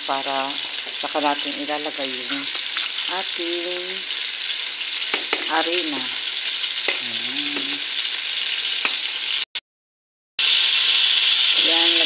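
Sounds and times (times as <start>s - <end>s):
margarine sizzling in a wok: 0.0s - 9.5s, 10.4s - 12.0s.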